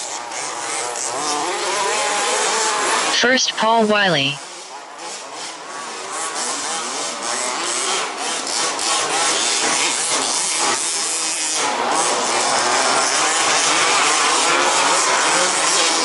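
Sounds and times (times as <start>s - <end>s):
small two-stroke engines revving: 0.0s - 16.0s.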